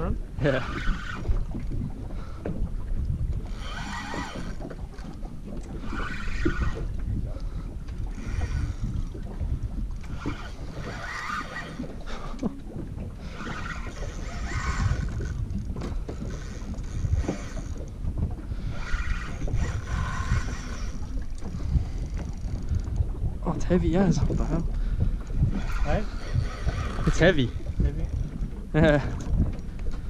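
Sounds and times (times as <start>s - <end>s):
water around boat: 0.0s - 30.0s
wind rumble on microphone: 0.0s - 30.0s
fishing reel whirring: 0.4s - 2.4s, 3.4s - 17.9s, 18.5s - 23.0s, 25.2s - 29.3s.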